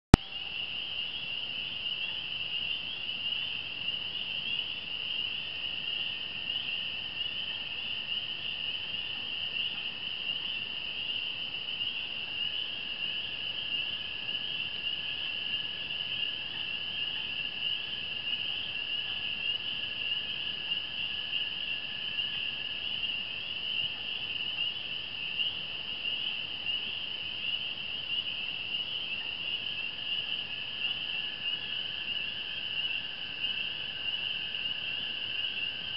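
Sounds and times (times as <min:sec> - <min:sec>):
frog chorus: 0:00.1 - 0:35.9.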